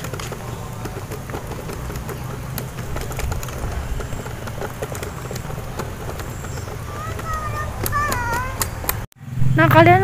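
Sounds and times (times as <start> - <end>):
outdoor background rumble: 0.0 - 10.0.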